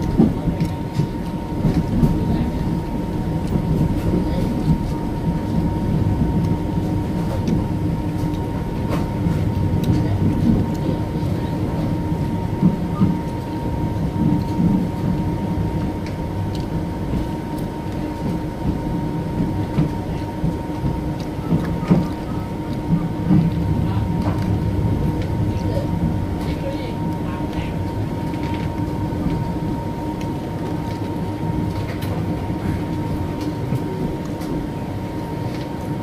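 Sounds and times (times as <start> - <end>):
constant hum: 0.0 - 36.0
train rolling rumble: 0.0 - 36.0.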